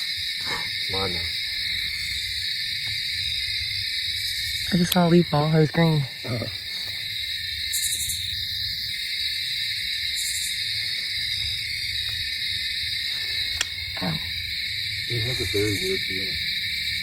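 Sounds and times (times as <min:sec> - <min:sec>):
night insects buzzing: 0:00.0 - 0:17.0.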